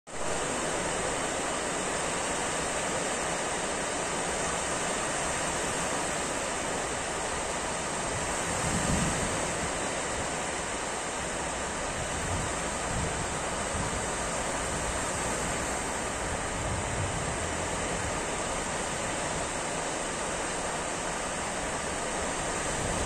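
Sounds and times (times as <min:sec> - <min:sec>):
sea waves breaking on beach: 0:00.1 - 0:23.0.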